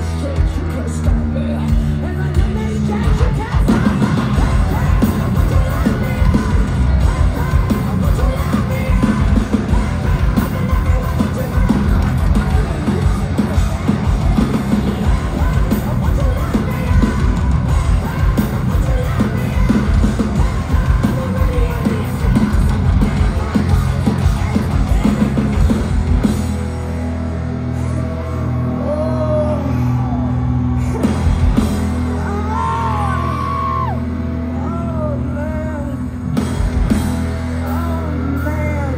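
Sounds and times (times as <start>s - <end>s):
heavy metal band playing live: 0.0s - 38.9s.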